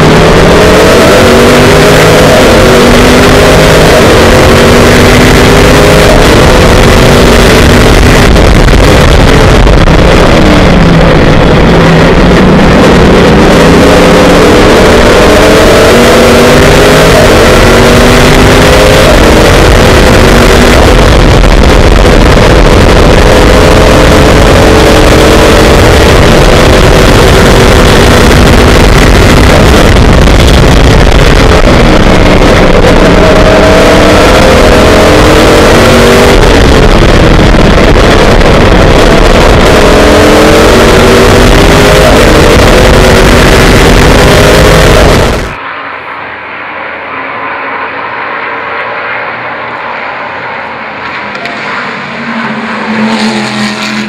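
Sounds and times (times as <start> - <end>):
racing car engine revving: 0.0 - 45.6, 46.6 - 54.0
wind and road noise: 0.0 - 54.0.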